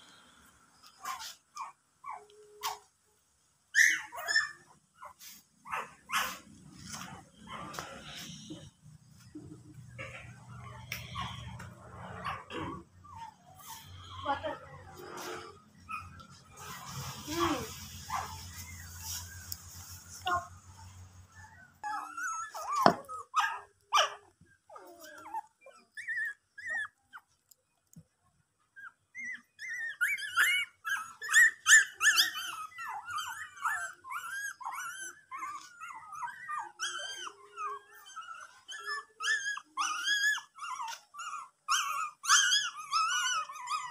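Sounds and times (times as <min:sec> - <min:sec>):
puppies whimpering and squealing: 0:00.8 - 0:02.9, 0:03.7 - 0:27.9, 0:28.7 - 0:43.9.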